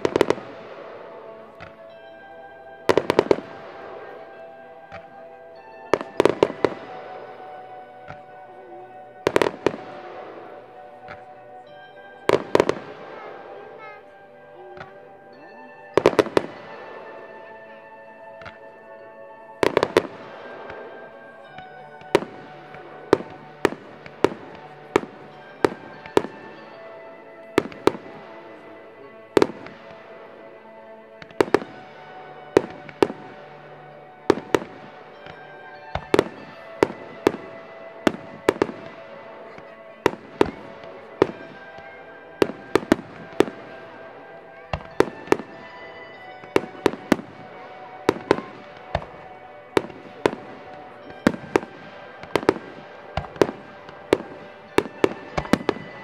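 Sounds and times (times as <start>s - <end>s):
music playing: 0.0s - 56.0s.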